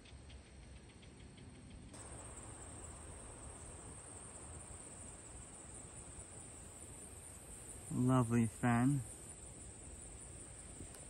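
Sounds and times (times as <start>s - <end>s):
insects trilling: 0.0s - 11.0s
low background noise: 0.0s - 11.0s.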